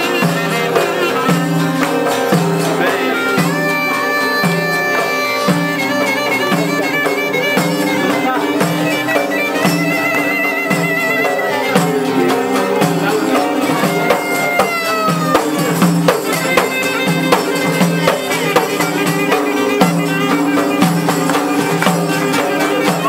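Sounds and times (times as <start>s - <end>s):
clarinet: 0.0s - 23.0s
strummed lute: 0.0s - 23.0s
violin: 0.0s - 23.0s.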